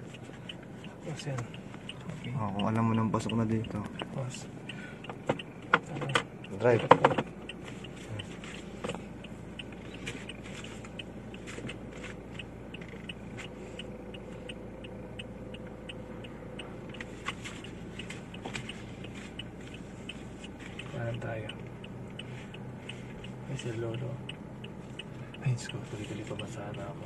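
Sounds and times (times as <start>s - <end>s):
car cabin hum: 0.0s - 27.0s
turn signal ticking: 0.0s - 27.0s.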